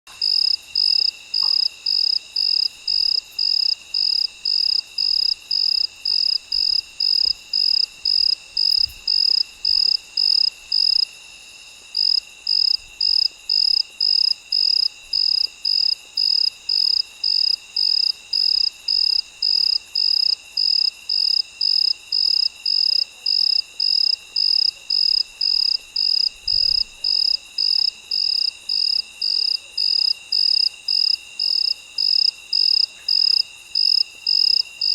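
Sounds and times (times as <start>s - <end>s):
cricket chirping: 0.1s - 34.9s
high insect trill: 0.1s - 34.9s.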